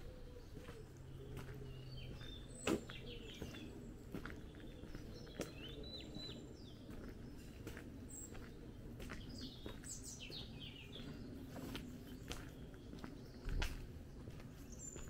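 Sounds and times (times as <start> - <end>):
footsteps on tarmac: 0.0 - 15.0
songbirds chirping: 0.0 - 15.0.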